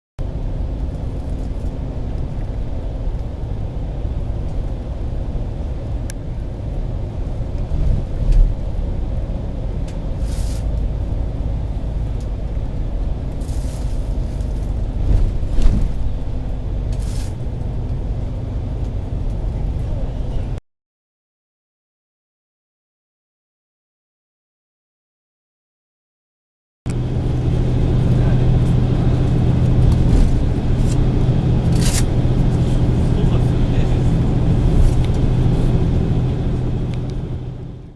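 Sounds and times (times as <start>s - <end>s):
low rumble of engine and tyres: 0.2s - 20.6s, 26.9s - 37.9s.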